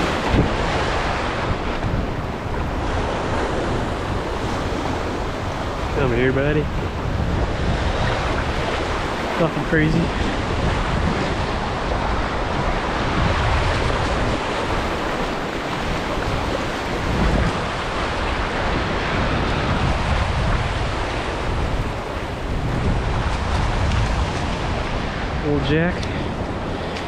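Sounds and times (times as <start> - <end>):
waves breaking: 0.0 - 27.0
wind blowing across microphone: 0.0 - 27.0.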